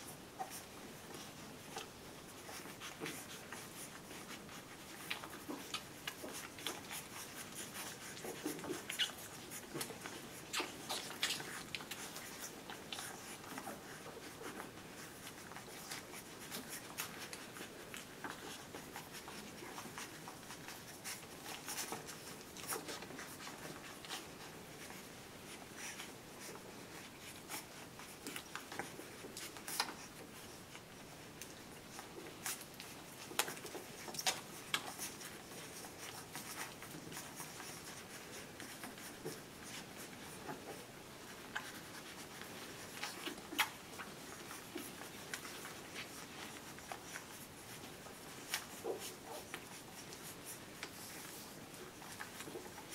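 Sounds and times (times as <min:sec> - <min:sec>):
puppies suckling wet clicks: 0:00.0 - 0:52.9.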